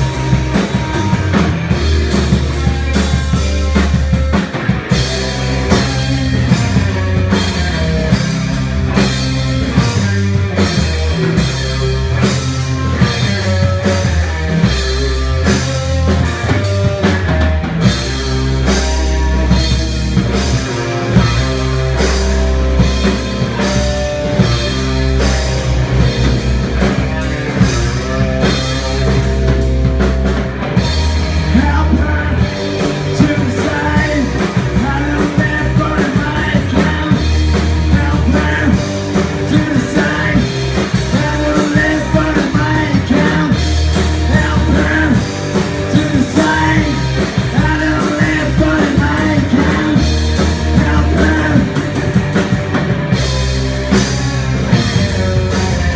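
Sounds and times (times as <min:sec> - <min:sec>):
grunge rock band playing: 0:00.0 - 0:55.9
wavering lead guitar line: 0:00.0 - 0:55.9.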